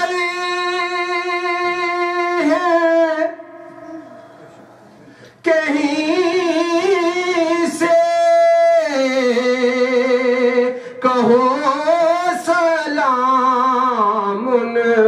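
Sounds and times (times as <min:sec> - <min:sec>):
man singing into microphone: 0:00.0 - 0:04.0, 0:05.3 - 0:15.0.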